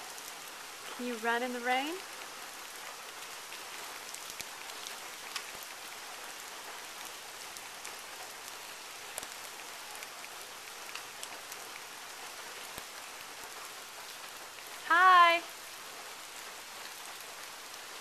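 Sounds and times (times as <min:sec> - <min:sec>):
rain on pavement and grass: 0:00.0 - 0:18.0.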